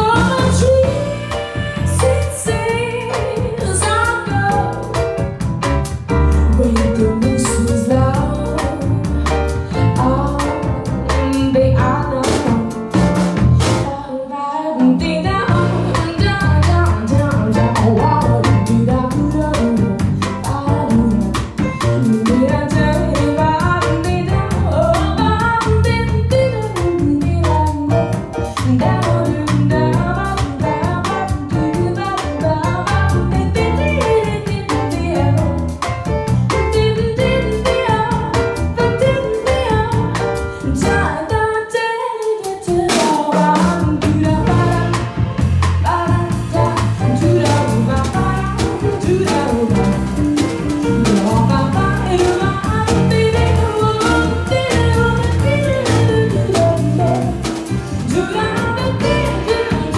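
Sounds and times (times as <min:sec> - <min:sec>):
drum kit: 0:00.0 - 0:14.1, 0:14.7 - 0:59.9
piano: 0:00.0 - 0:59.9
woman singing jazz: 0:00.0 - 0:59.9.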